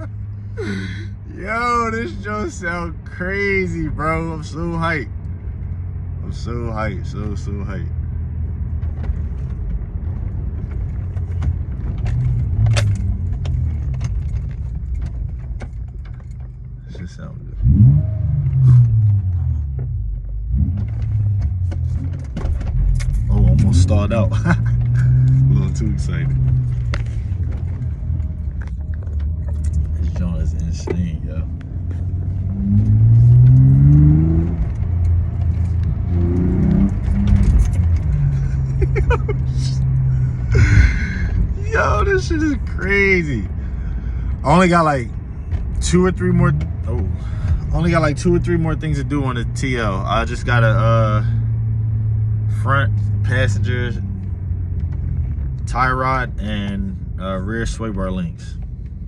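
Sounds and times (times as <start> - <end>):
car exhaust drone: 0.0 - 59.0.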